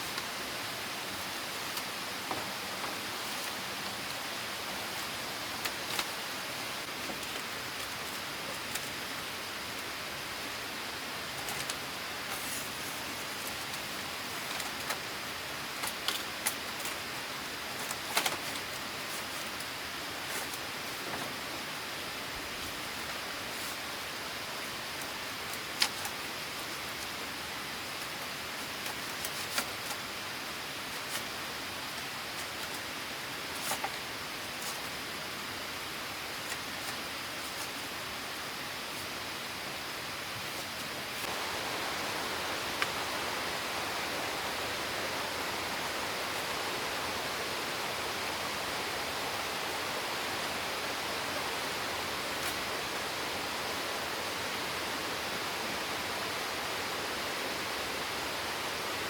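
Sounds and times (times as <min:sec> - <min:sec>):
falling water hiss: 0:00.0 - 0:59.0.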